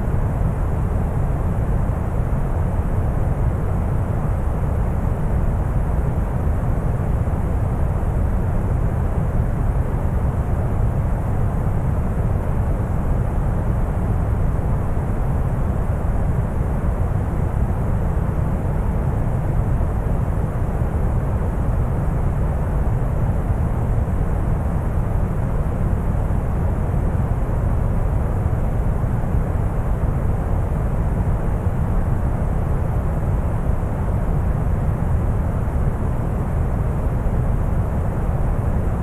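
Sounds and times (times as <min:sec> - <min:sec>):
brown noise rumbling hiss: 0:00.0 - 0:39.0.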